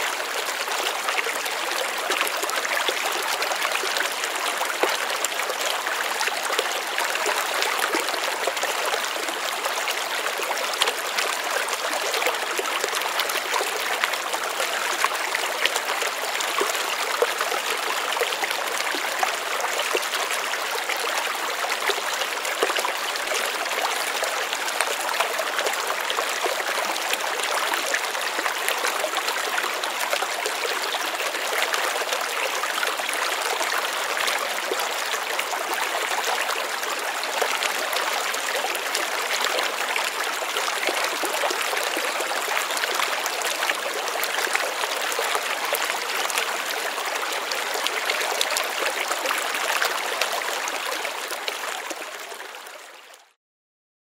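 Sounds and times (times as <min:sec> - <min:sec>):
stream babbling over rocks: 0:00.0 - 0:53.2.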